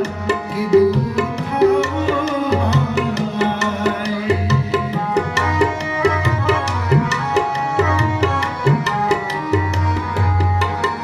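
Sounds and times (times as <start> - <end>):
tabla drumming: 0.0 - 11.0.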